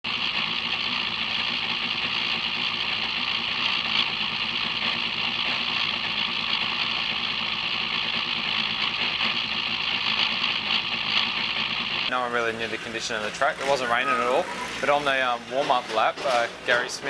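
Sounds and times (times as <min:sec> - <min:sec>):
steady engine noise: 0:00.1 - 0:17.0.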